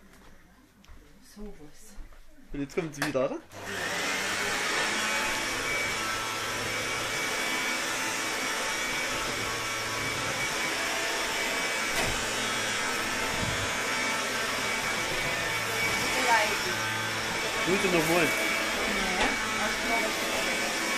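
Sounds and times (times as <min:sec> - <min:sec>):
vacuum cleaner running: 0:03.5 - 0:20.9.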